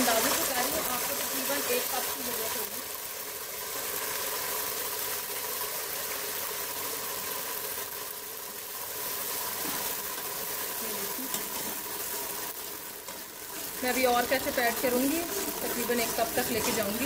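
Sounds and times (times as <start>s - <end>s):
sauce sizzling in hot oil: 0.0s - 17.0s.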